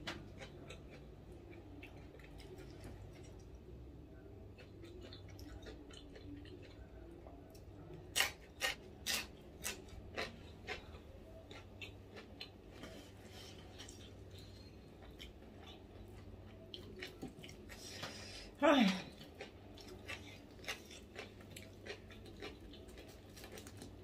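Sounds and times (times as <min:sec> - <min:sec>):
chewing and crunching food: 0:00.0 - 0:24.0
low steady hum: 0:00.0 - 0:24.0.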